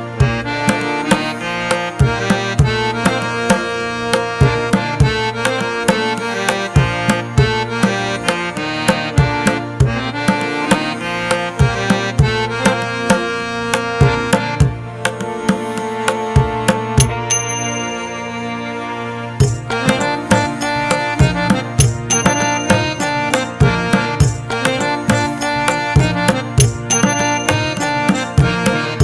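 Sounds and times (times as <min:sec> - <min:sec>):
sustained held chords: 0:00.0 - 0:29.0
hand drum rhythm: 0:00.1 - 0:17.5, 0:19.4 - 0:29.0.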